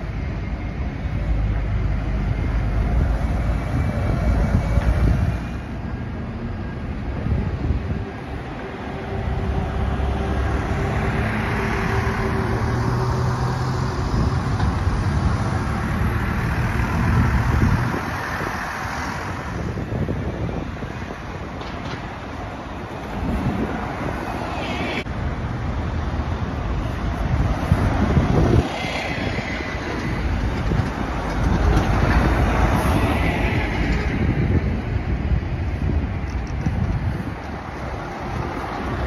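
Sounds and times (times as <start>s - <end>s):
bus engine rumbling: 0.0s - 39.0s
street traffic: 0.0s - 39.0s.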